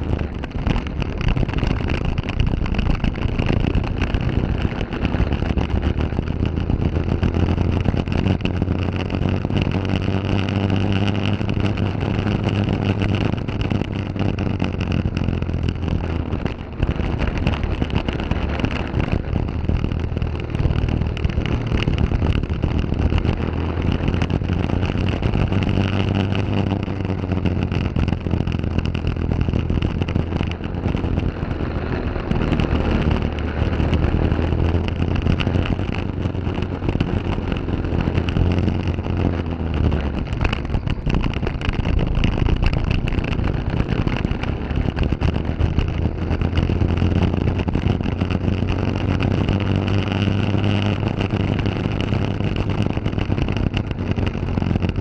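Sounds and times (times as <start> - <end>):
kart engine running: 0.0 - 55.0
wind noise on microphone: 0.0 - 55.0.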